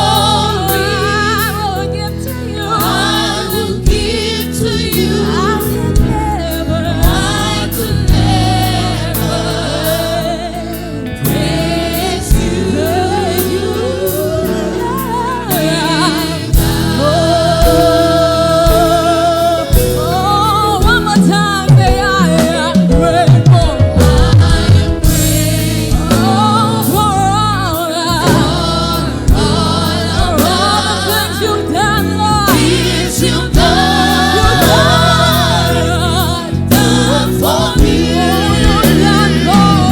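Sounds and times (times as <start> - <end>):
band beat: 0.0 - 39.9
bass notes: 0.0 - 39.9
choir singing: 0.0 - 39.9.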